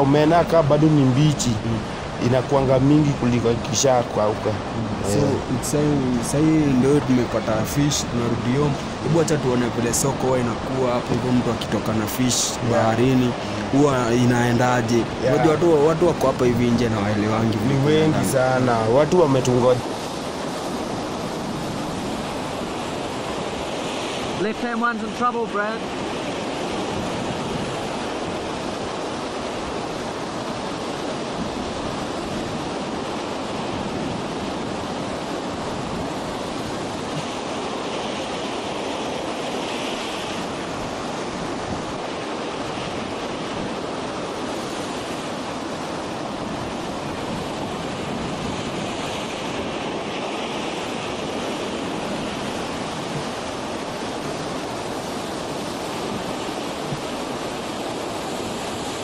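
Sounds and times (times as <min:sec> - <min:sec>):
choppy lake water: 0:00.0 - 0:59.0
wind: 0:00.0 - 0:59.0.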